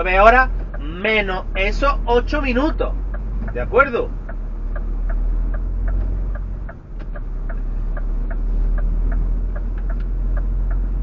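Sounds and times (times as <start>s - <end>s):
lorry engine running: 0.0s - 11.0s
turn signal ticking: 0.0s - 11.0s.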